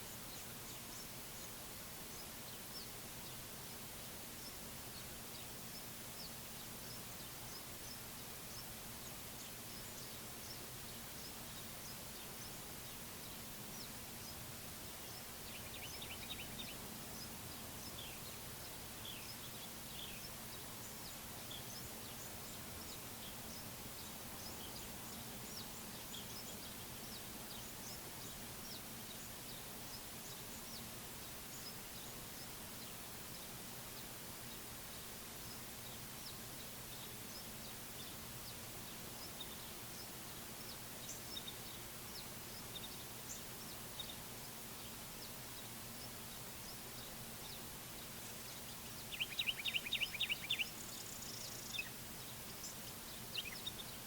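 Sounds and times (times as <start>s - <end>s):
birds chirping: 0.0s - 54.0s
low steady hum: 0.0s - 54.0s.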